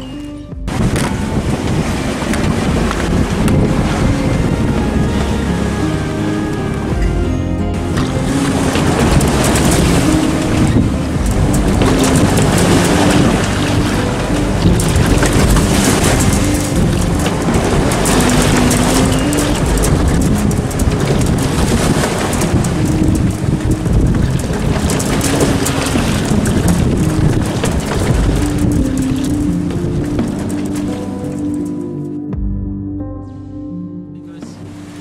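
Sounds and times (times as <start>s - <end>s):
rushing water: 0.0s - 32.0s
wind buffeting microphone: 0.0s - 32.0s
waves against boat hull: 0.7s - 5.4s, 7.8s - 31.8s.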